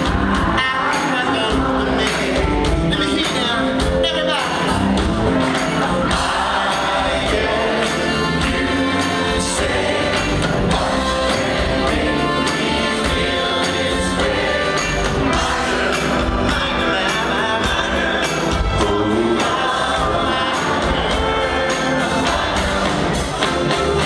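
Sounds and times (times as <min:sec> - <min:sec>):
male group singing in harmony: 0:00.0 - 0:03.6, 0:04.4 - 0:24.0
live band playing: 0:00.0 - 0:24.0.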